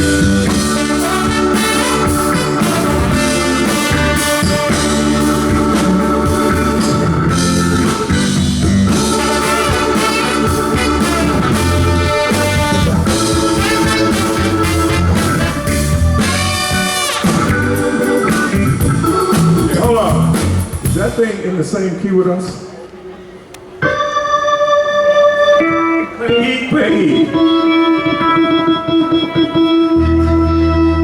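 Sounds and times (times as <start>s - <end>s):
funk band playing live: 0.0s - 21.2s, 23.7s - 31.0s.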